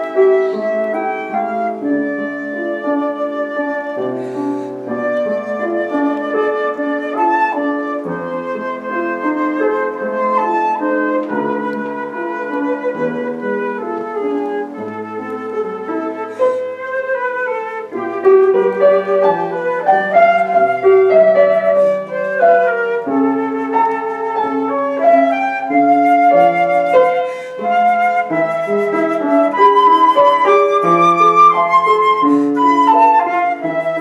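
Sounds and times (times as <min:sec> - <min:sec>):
flute playing slow melody: 0:00.0 - 0:34.0.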